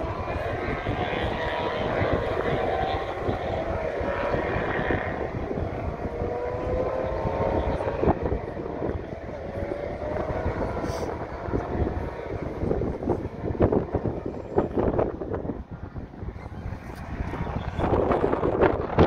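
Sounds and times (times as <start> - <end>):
distant race car engines: 0.0 - 19.0.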